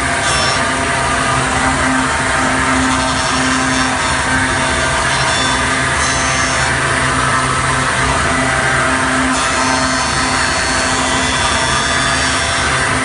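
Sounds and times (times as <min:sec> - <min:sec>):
wood lathe machine hum and whine: 0:00.0 - 0:13.0.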